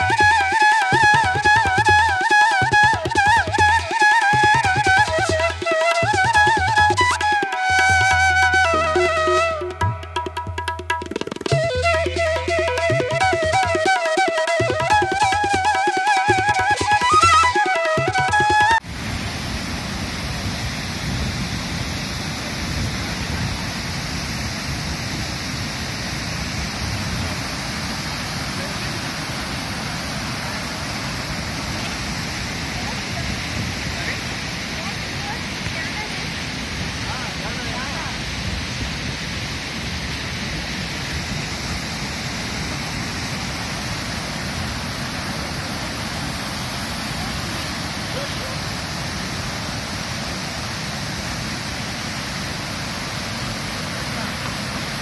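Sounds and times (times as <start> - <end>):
river water rushing over weir: 0.0 - 55.0.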